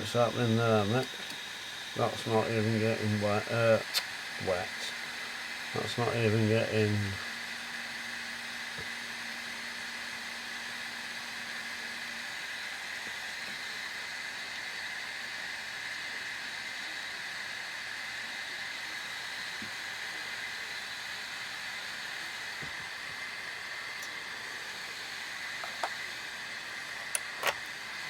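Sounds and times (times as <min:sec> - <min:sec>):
hot air blower rushing: 0:00.0 - 0:28.0.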